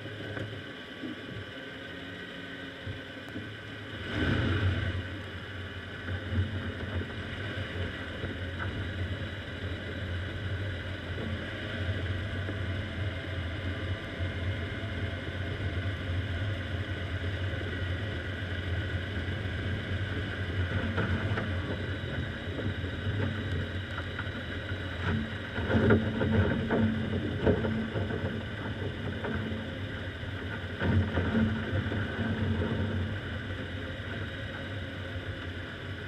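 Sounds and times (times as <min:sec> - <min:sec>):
car engine and tyre rumble: 0:00.0 - 0:36.0
faint whine: 0:00.0 - 0:36.0.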